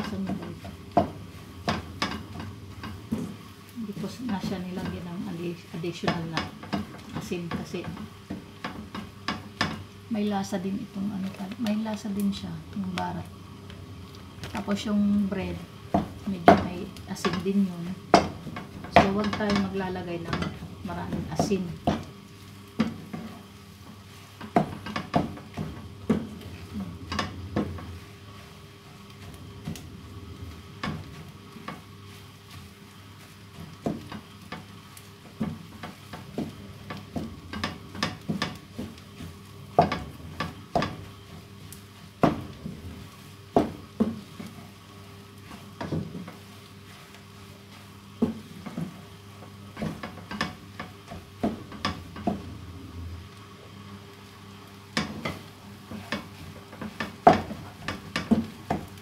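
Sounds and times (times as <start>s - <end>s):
wooden spoon scraping a pan: 0.0s - 10.0s, 14.4s - 59.0s
faint frying sizzle: 0.0s - 59.0s.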